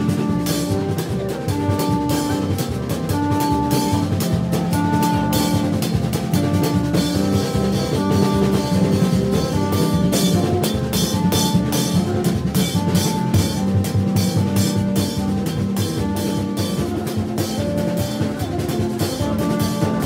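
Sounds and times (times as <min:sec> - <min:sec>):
hand drums beating fast: 0:00.0 - 0:20.0.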